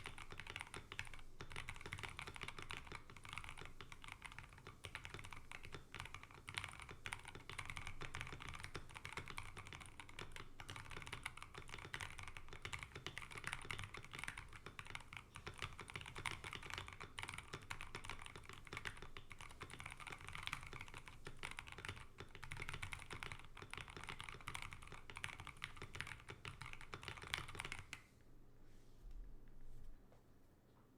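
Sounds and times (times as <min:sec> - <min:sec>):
typing on mechanical keyboard: 0:00.0 - 0:28.0.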